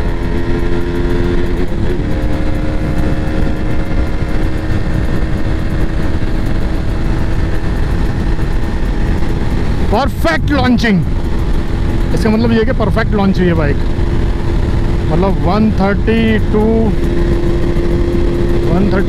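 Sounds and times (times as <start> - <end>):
motorcycle engine running flat out: 0.0 - 19.0
wind rush on microphone: 0.0 - 19.0.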